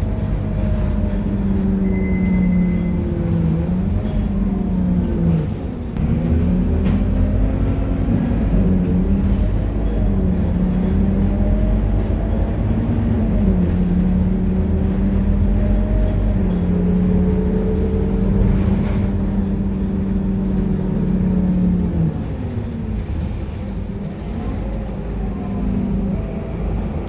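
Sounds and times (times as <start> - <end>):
bus diesel engine running: 0.0 - 27.0.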